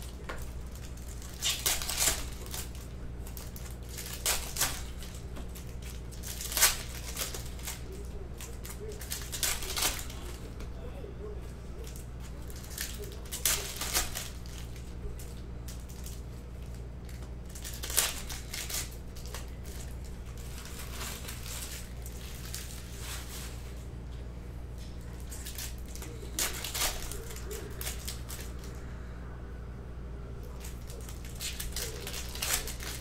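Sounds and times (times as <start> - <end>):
plastic wrappers crinkling and tearing: 0.0 - 10.7, 11.6 - 23.9, 24.7 - 28.8, 30.4 - 33.0
steady low hum: 0.0 - 33.0.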